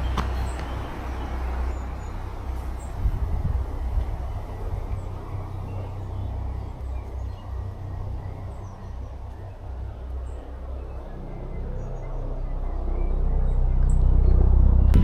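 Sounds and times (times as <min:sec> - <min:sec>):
faint birdsong: 0:00.0 - 0:15.0
low rumble: 0:02.0 - 0:15.0.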